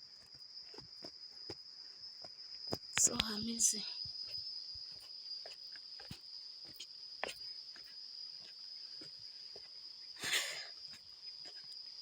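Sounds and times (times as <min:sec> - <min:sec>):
footsteps on trail: 0:00.0 - 0:12.0
insects droning: 0:00.0 - 0:12.0.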